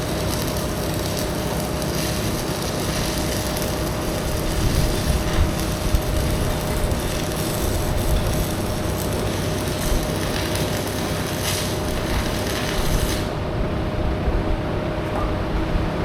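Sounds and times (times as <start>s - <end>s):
welding arc hissing and crackling: 0.0s - 13.8s
steady low hum: 0.0s - 16.0s.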